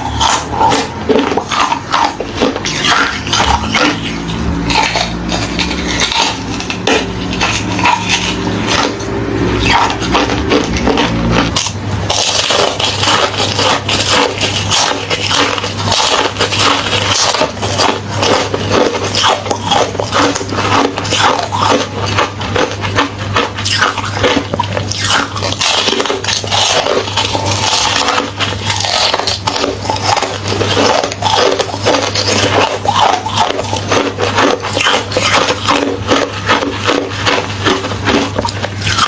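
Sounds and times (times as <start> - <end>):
chewing crunchy ice: 0.0 - 39.0
low hum: 0.0 - 39.0.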